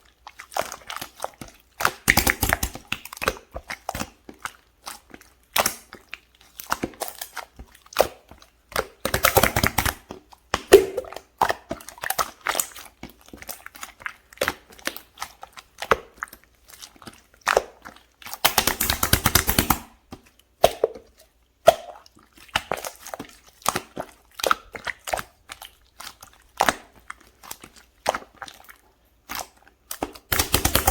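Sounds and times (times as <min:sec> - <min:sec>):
slime squeezed with wet clicks: 0:00.3 - 0:30.9.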